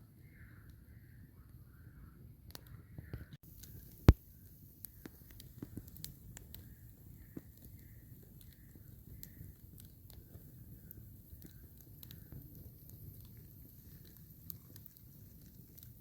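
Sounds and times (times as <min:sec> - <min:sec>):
campfire crackling and popping: 0:02.5 - 0:16.0.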